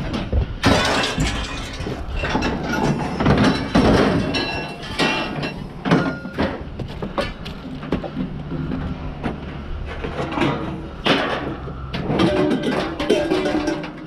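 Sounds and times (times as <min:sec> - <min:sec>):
scrap metal clanking: 0:00.2 - 0:07.7, 0:09.4 - 0:14.0.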